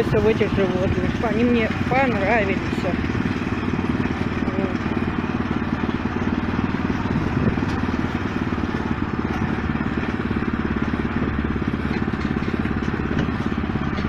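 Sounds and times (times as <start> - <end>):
engine running with fast pulse: 0.0 - 14.0.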